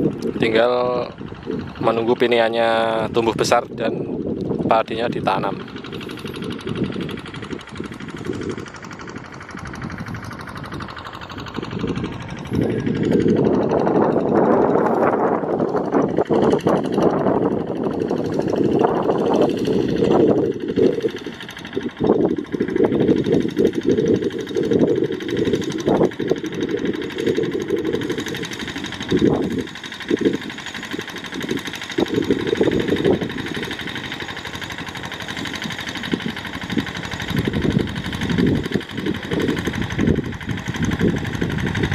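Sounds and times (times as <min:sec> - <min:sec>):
diesel engine running under load: 0:00.0 - 0:41.9.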